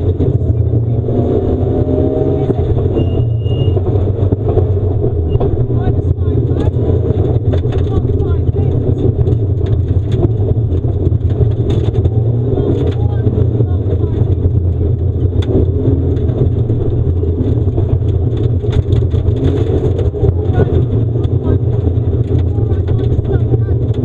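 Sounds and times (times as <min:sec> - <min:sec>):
car engine running hard: 0:00.0 - 0:24.0
gravel striking car: 0:00.0 - 0:24.0.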